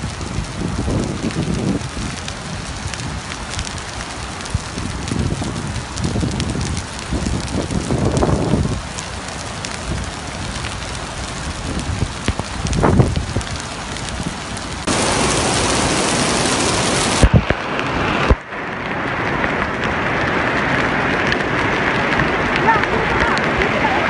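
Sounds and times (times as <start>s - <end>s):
heavy rain splashing on paving: 0.0s - 24.0s
low rumbles: 0.0s - 24.0s.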